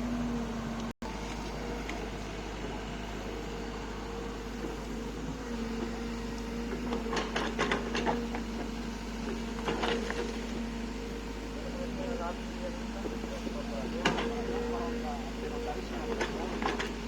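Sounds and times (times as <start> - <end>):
excavator engine droning: 0.0 - 17.0.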